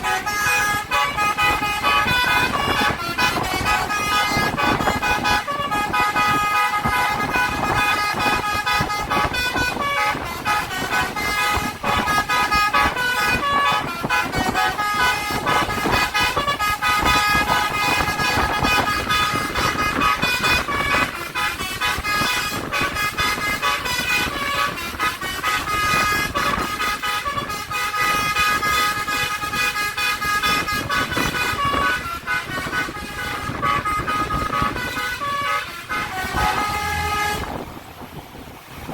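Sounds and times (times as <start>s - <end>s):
bus horn melody: 0.0s - 37.8s
road and engine noise: 0.0s - 38.9s.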